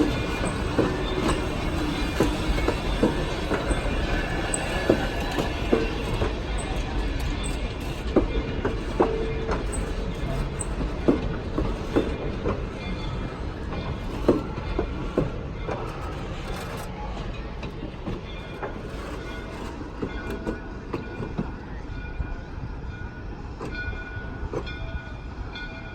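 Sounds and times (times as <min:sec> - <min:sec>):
clanks and knocks: 0:00.0 - 0:21.6
steam locomotive rumbling: 0:00.0 - 0:25.9.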